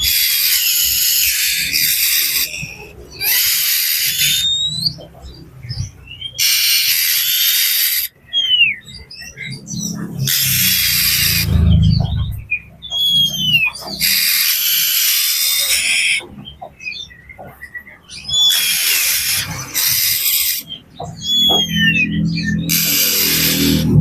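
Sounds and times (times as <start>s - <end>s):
bird whistled notes: 0.0s - 5.1s, 5.7s - 16.3s, 16.9s - 24.0s
bird harsh rasping churrs: 0.0s - 24.0s.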